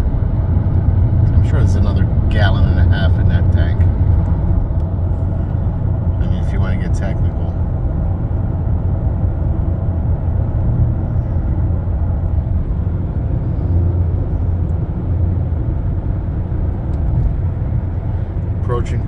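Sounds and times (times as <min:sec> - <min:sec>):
car cabin road and engine rumble: 0:00.0 - 0:19.0.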